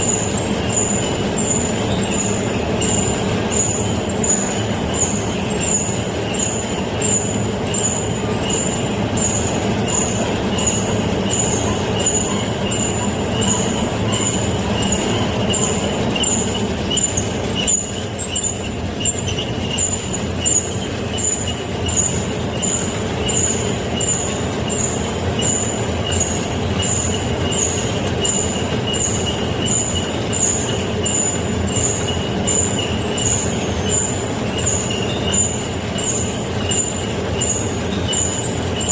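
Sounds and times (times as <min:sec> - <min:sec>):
high mechanical squeak: 0:00.0 - 0:38.9
machine running: 0:00.0 - 0:38.9.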